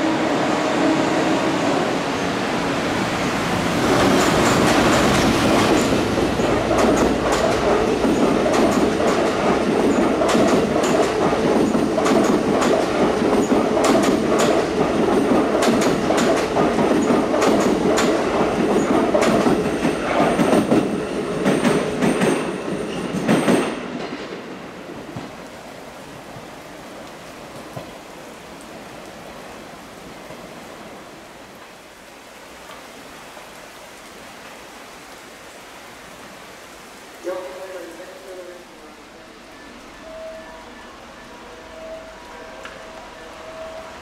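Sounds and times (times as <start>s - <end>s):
train passing with rumble: 0.0s - 31.6s, 37.2s - 44.0s.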